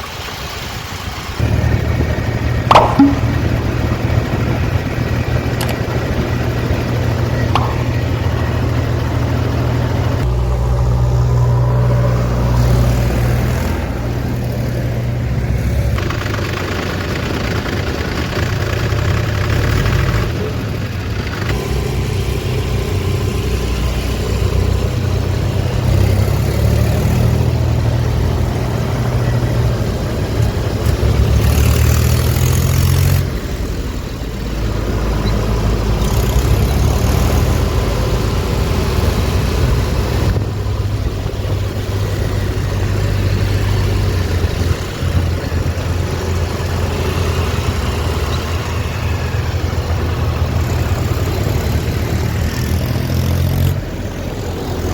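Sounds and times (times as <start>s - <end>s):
heavy diesel machinery engines: 0.0s - 54.9s.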